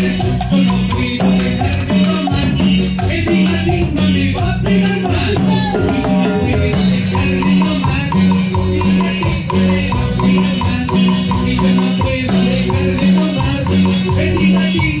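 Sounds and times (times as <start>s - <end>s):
live latin band playing: 0.0s - 15.0s.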